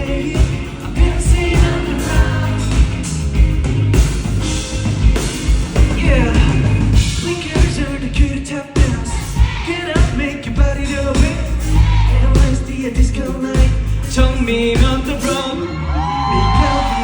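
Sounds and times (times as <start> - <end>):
sung vocals: 0.0 - 3.7, 5.6 - 17.0
drum kit: 0.0 - 15.5, 16.4 - 17.0
heavy bass: 0.0 - 17.0
live pop-rock band: 0.0 - 17.0.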